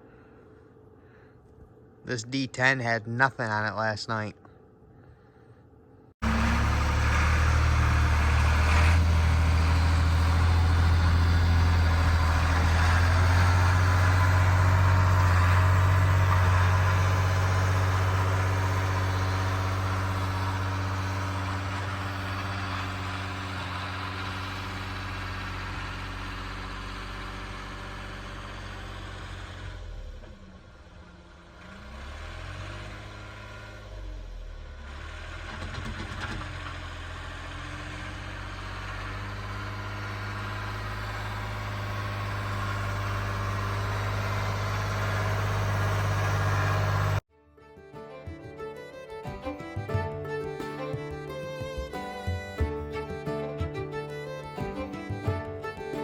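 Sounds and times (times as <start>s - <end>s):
tractor engine running: 6.2s - 47.2s, 48.0s - 56.0s.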